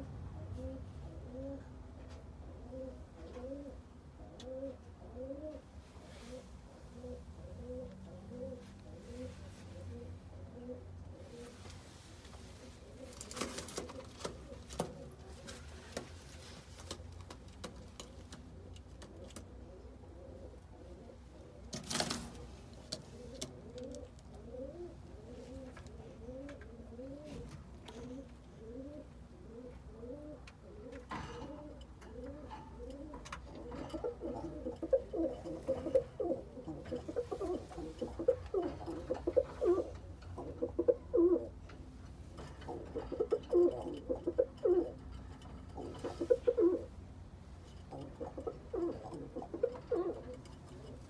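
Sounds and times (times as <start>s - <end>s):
pigeons cooing: 0.0s - 11.7s, 12.5s - 47.2s, 47.8s - 51.0s.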